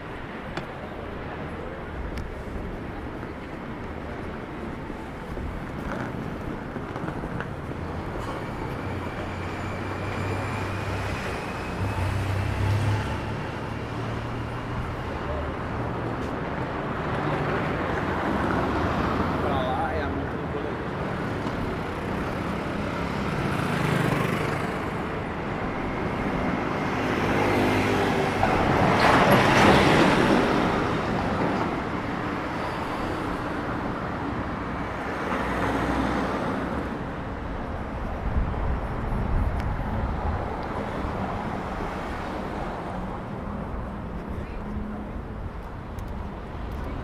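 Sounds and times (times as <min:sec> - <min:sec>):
road noise: 0:00.0 - 0:47.0.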